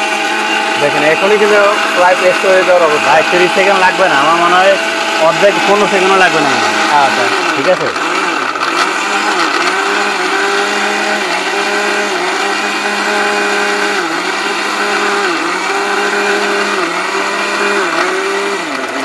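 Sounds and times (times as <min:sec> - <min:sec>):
electric blender grinding: 0:00.0 - 0:19.0.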